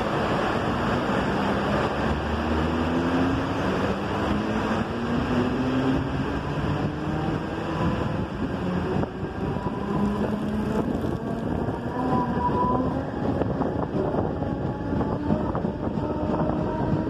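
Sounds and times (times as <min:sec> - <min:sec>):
train rumble and rattle: 0:00.0 - 0:17.0
wind on microphone: 0:00.0 - 0:17.0.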